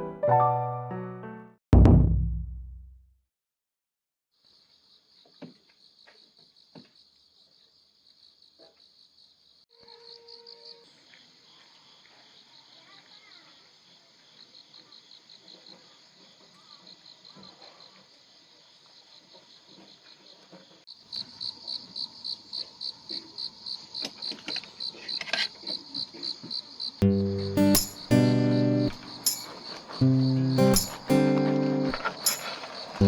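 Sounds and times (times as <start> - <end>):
crickets chirping: 4.4 - 33.0.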